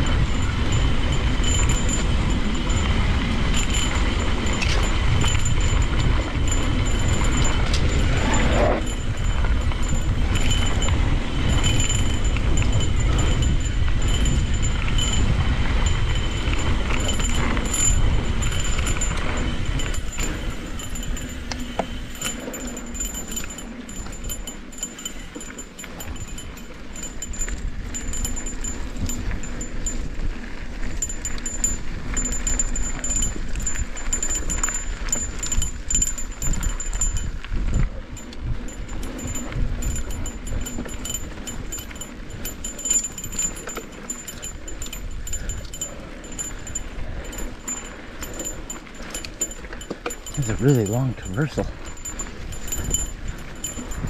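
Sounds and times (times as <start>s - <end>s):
bike tyres on dirt: 0.0s - 54.0s
chain and frame rattle: 0.0s - 54.0s
wind rumble on microphone: 0.0s - 54.0s.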